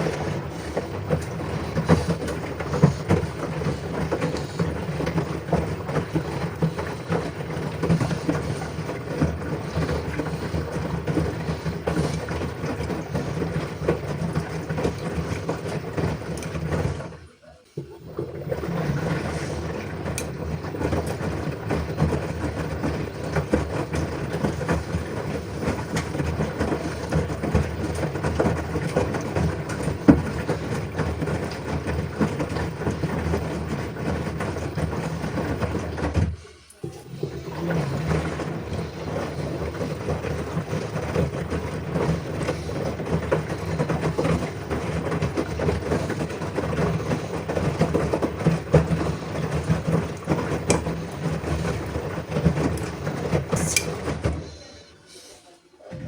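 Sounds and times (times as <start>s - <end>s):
washing machine churning: 0.0s - 56.0s.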